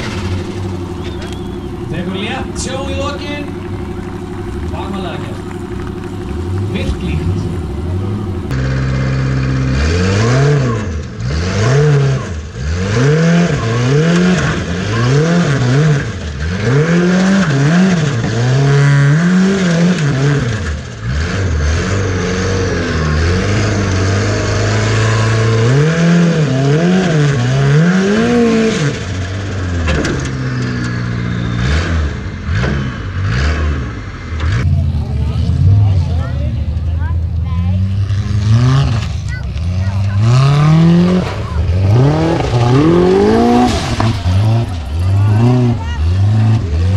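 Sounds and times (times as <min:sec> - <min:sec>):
buggy engine revving: 0:00.0 - 0:46.9.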